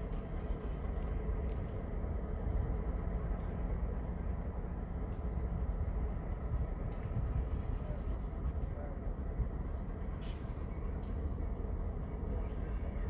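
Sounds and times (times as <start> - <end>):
distant locomotive rumble: 0.0 - 13.0.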